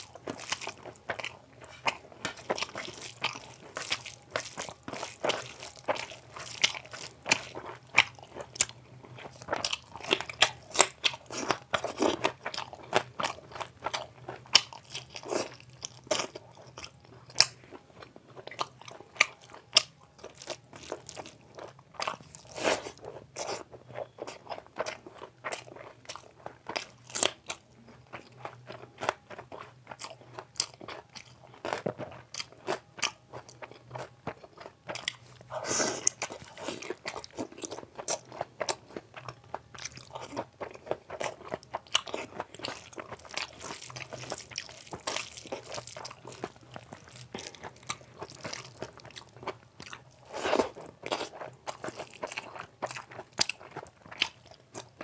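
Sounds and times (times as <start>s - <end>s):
person chewing with wet clicks: 0.0s - 55.0s.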